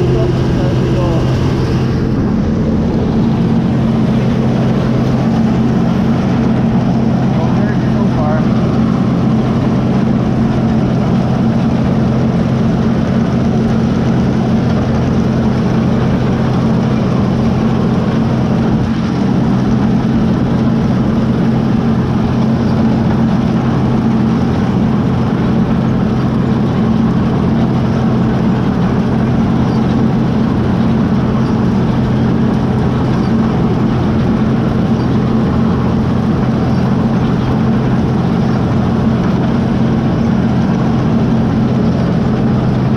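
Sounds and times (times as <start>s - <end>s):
combine harvester humming: 0.0s - 42.9s.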